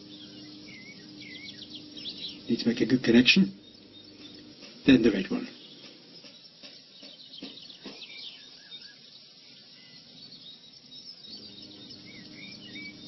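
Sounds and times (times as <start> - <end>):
cooling fan humming: 0.0 - 13.0
small birds chirping: 0.0 - 13.0.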